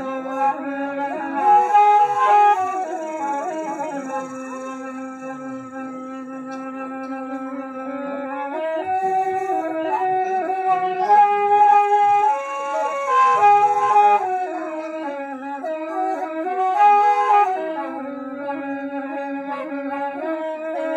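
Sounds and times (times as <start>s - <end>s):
bamboo flutes playing slow melody: 0.0s - 20.9s.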